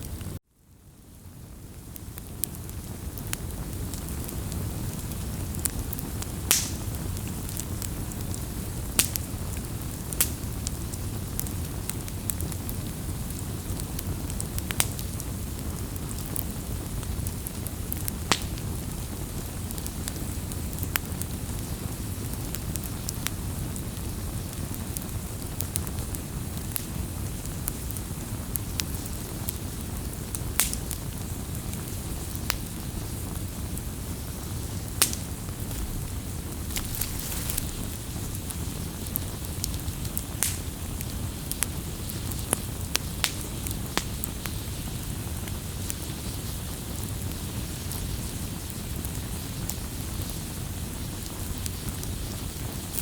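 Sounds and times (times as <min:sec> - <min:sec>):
fire crackling and popping: 0:00.0 - 0:53.0
low rush of flame: 0:00.0 - 0:53.0.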